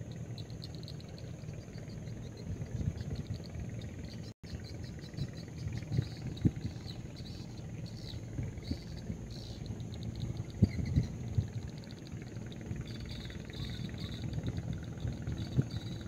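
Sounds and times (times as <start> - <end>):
high chirping: 0.0 - 16.0
wind buffeting microphone: 0.0 - 16.0.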